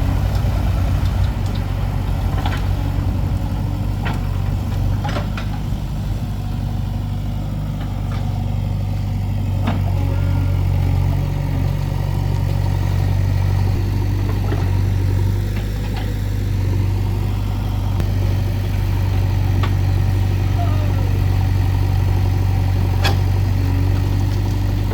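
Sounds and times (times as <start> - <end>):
heavy machinery diesel engine running: 0.0 - 24.9.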